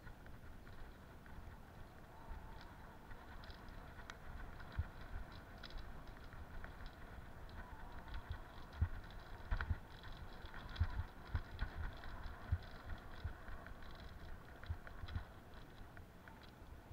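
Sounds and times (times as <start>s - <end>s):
bicycle tyres rumbling on dirt: 0.0s - 16.9s.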